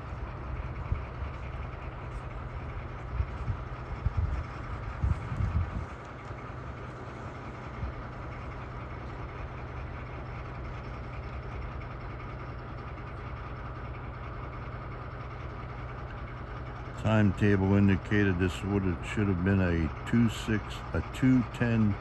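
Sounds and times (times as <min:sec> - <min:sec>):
locomotive engine idling: 0:00.0 - 0:22.0.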